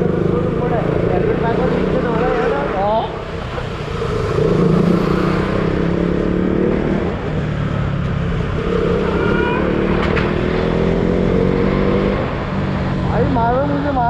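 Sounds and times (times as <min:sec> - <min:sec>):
motorcycle engine accelerating: 0:00.0 - 0:13.8.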